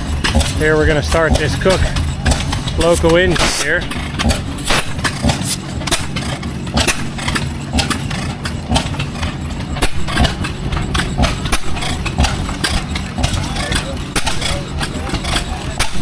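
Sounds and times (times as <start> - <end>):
antique engine running: 0.0 - 16.0
engine firing pops: 0.0 - 16.0.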